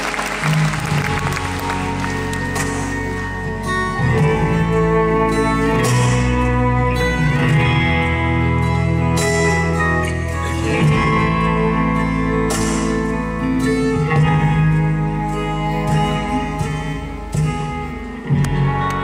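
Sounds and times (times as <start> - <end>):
guitars strumming and picking: 0.0 - 19.0
live band playing instrumental: 0.0 - 19.0.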